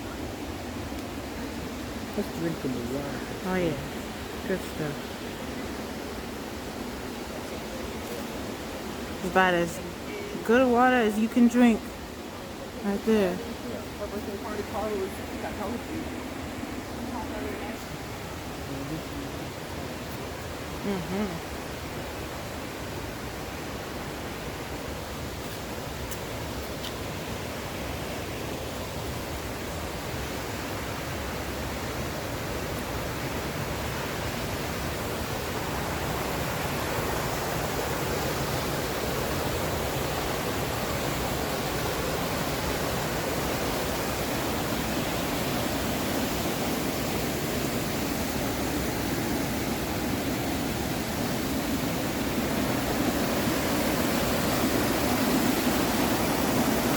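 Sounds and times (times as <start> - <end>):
mountain creek rushing: 0.0 - 56.9.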